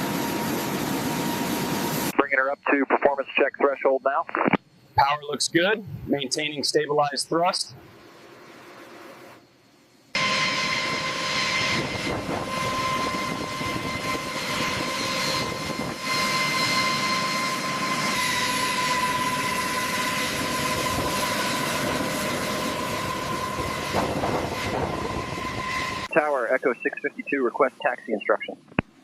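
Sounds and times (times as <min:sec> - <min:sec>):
aircraft turbine engine running: 0:00.0 - 0:03.9, 0:04.7 - 0:29.0.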